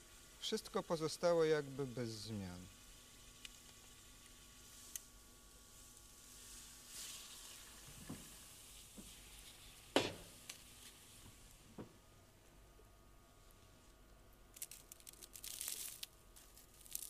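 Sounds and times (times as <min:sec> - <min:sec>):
liquid nitrogen boiling: 0:00.0 - 0:17.0.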